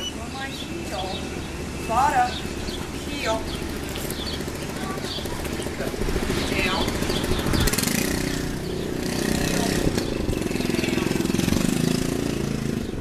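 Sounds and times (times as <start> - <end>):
engine running with fast pulse: 2.6 - 13.0.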